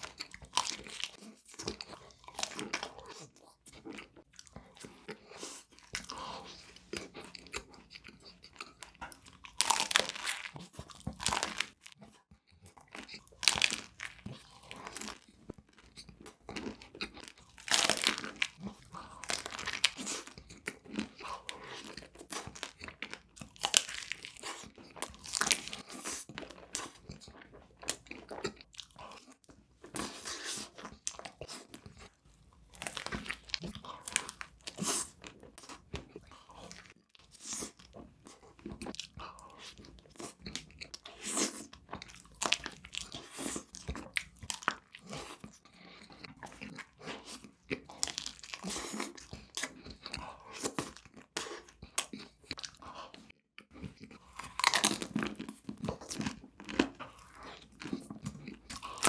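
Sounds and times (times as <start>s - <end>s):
person chewing crunchy sweets: 0.0s - 59.0s.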